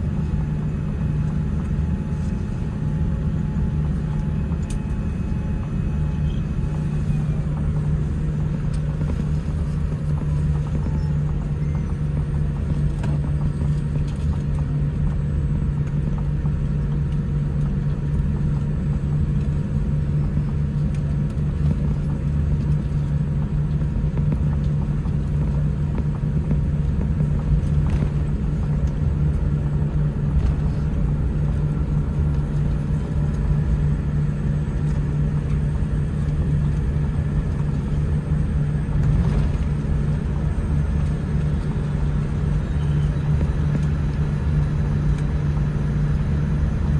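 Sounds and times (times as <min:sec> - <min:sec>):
airliner cabin rumble and hum: 0:00.0 - 0:46.9.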